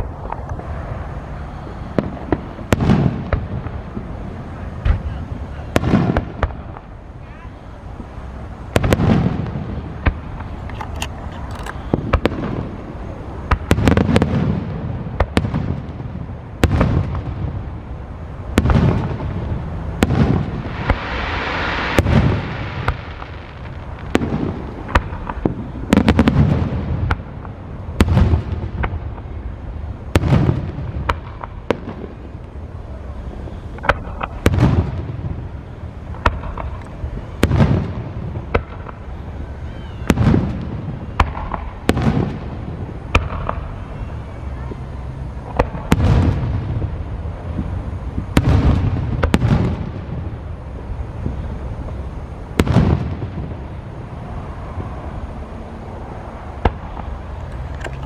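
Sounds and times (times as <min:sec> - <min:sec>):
fireworks booming: 0:00.0 - 0:58.0
hissing crackle: 0:00.0 - 0:58.0.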